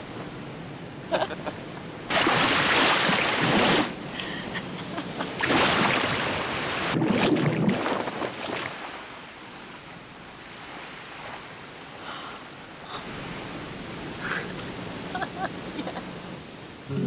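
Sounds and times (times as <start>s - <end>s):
ocean surf washing onto beach: 0.1s - 17.0s.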